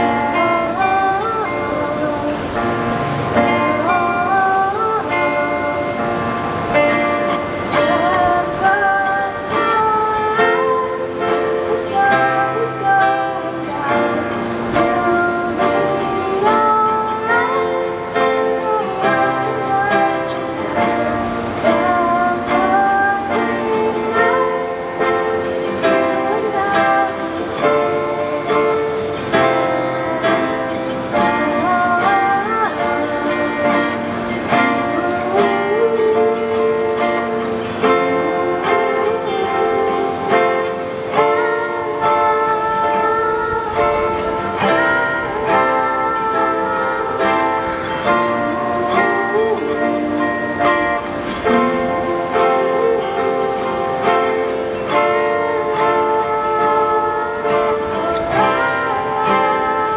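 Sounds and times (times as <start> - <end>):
plucked acoustic guitar: 0.0 - 59.9
woman singing: 0.0 - 59.9.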